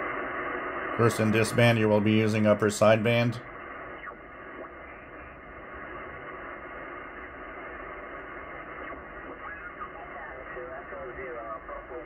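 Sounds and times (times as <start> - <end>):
radio hiss and band noise: 0.0 - 12.0
gliding radio tone: 0.9 - 12.0.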